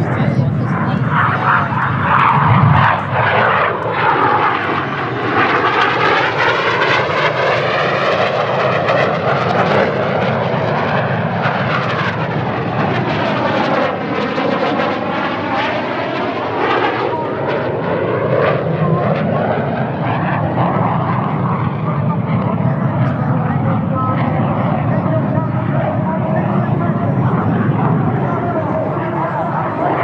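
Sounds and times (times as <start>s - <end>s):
jets flying past: 0.0s - 30.0s.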